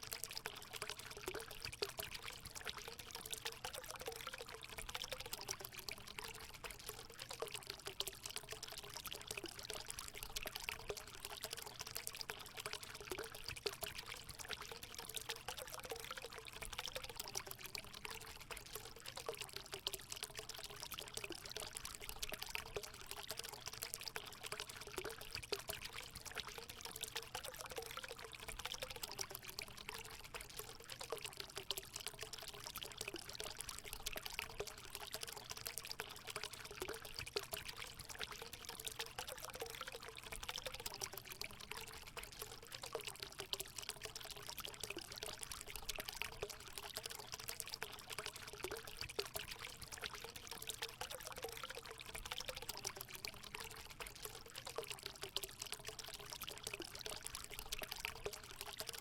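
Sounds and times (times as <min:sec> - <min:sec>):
water pouring into a pool: 0:00.0 - 0:59.0.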